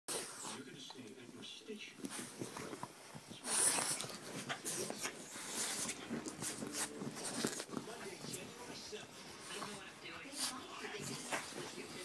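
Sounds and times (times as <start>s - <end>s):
dogs breathing and snuffling: 0.1s - 1.2s, 1.8s - 12.0s.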